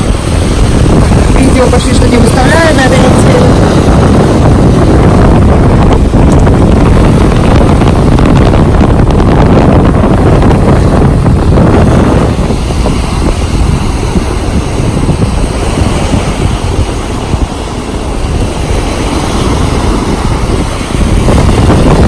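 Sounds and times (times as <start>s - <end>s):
gusty wind on microphone: 0.0s - 22.0s.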